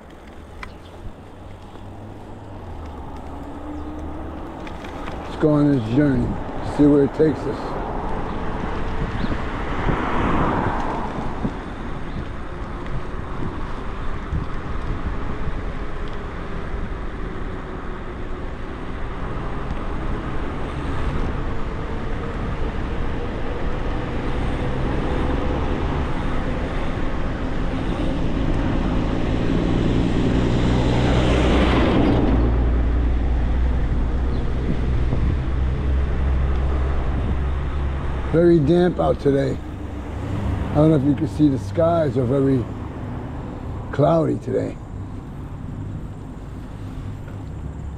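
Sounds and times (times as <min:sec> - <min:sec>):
wind rumble on microphone: 0:00.0 - 0:42.0
vehicle passing close: 0:00.3 - 0:12.6, 0:19.4 - 0:47.9.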